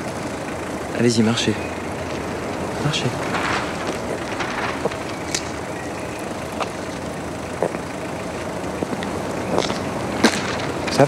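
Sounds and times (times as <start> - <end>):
distant traffic hum: 0.0 - 11.0
soft footsteps: 1.7 - 11.0.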